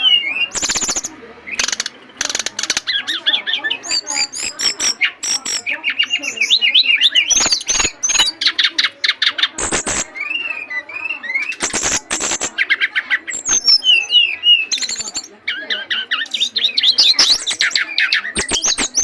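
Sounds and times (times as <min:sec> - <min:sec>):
songbird singing trills and whistles: 0:00.0 - 0:19.0.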